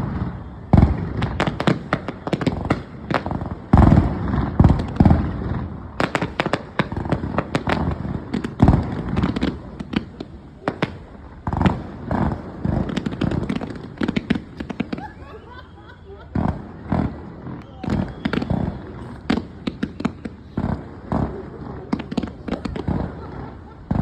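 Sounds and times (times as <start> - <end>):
firework booms with echoes: 0.0 - 24.0
firework crackling pops: 0.0 - 24.0.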